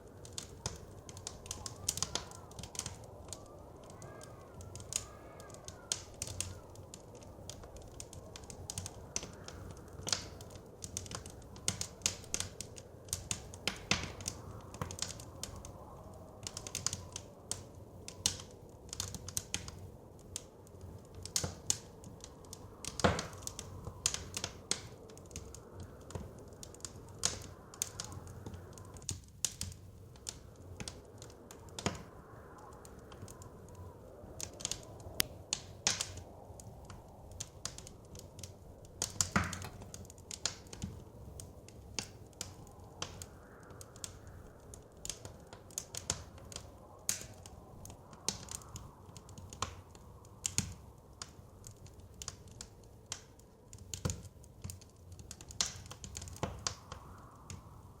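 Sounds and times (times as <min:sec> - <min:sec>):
blizzard wind rushing: 0:00.0 - 0:29.1, 0:29.8 - 0:52.2
wood fire crackling: 0:00.0 - 0:58.0.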